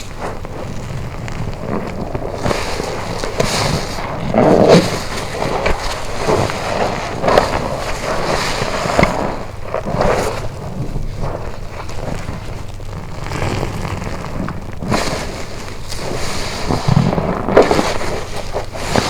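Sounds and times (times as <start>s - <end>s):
wet sponge squelching: 0.0s - 19.0s.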